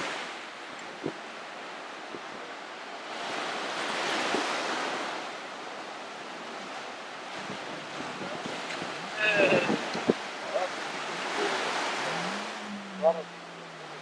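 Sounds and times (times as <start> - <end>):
sea water rushing: 0.0 - 14.0.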